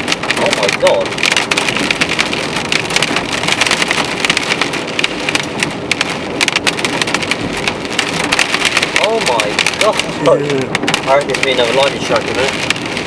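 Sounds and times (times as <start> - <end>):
hailstones clattering: 0.0 - 13.0.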